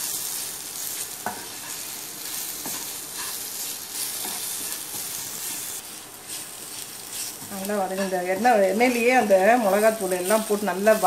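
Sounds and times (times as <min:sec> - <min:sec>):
masala sizzling in oil: 0:00.0 - 0:11.0
spatula scraping pan: 0:01.2 - 0:11.0.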